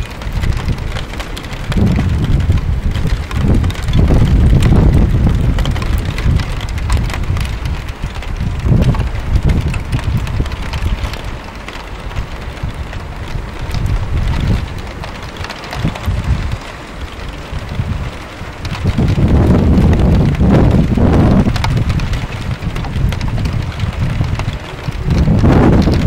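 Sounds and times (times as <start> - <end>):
patter of raindrops: 0.0 - 26.0
rain hiss: 0.0 - 26.0
wind buffeting microphone: 0.0 - 26.0.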